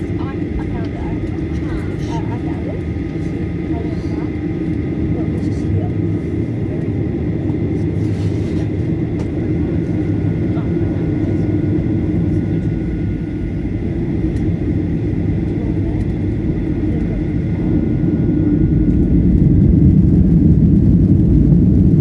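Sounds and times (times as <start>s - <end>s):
airplane cabin engine roar: 0.0s - 22.0s.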